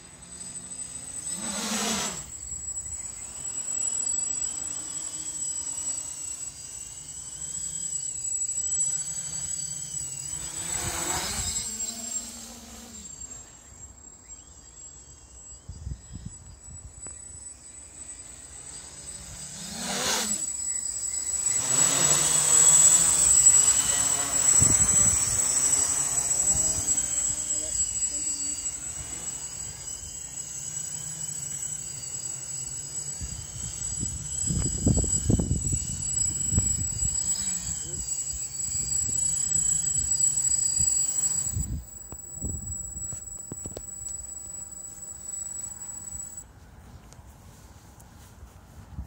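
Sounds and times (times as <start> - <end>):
drone motors humming: 0.0 - 49.0.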